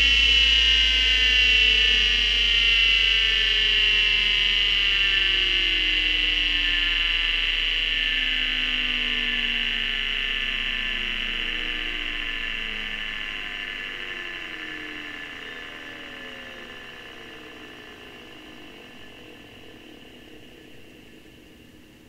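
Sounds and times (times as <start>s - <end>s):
hard disk whine winding down: 0.0s - 22.0s.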